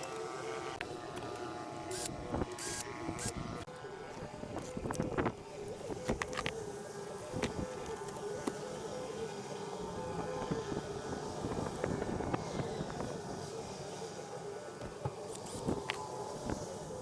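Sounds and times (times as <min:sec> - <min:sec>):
steady humming tone: 0:00.0 - 0:17.0.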